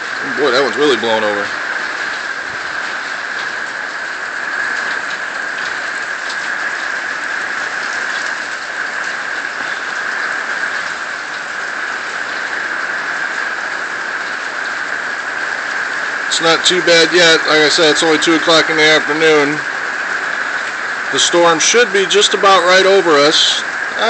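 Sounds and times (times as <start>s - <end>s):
heavy wind-driven rain: 0.0s - 24.0s
raindrops ticking close by: 0.0s - 24.0s.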